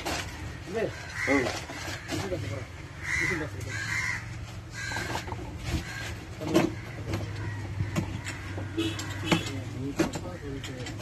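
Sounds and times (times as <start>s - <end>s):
crows cawing: 0.0s - 10.9s.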